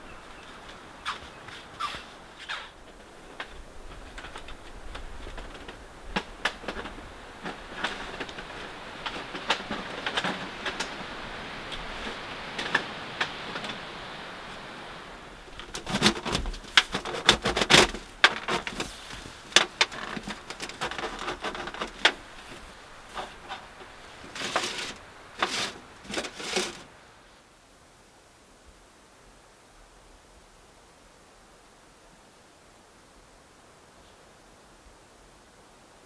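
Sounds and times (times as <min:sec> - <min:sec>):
steady hiss with faint ticks: 0:00.0 - 0:36.0.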